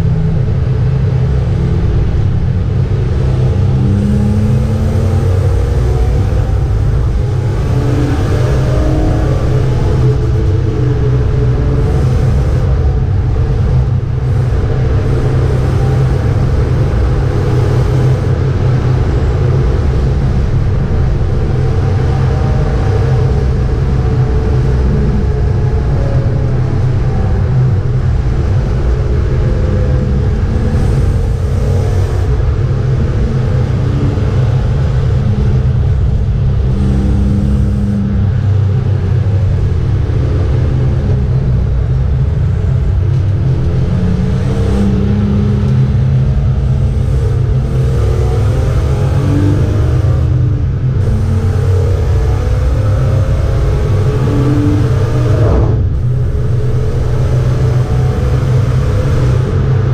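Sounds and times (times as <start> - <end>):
car engine pulling hard: 0.0 - 59.9
road and wind noise: 0.0 - 59.9.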